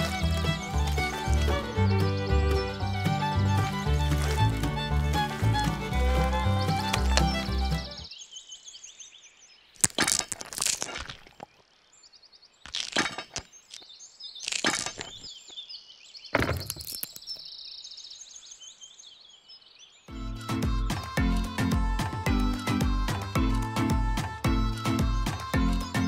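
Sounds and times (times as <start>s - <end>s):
bird chirps: 0.0s - 9.8s, 11.4s - 26.0s.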